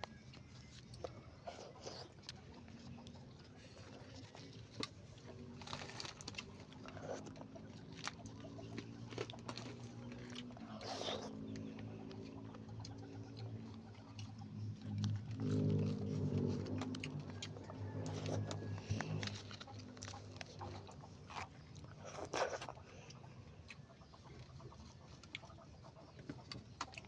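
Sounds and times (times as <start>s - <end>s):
faint low hum: 0.0s - 27.0s
person chewing leafy greens: 0.0s - 27.0s.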